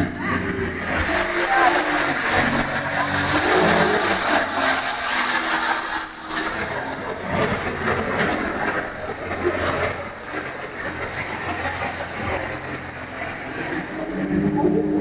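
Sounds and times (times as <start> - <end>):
outboard engine running: 0.0 - 15.0
wind and water rush: 0.0 - 15.0.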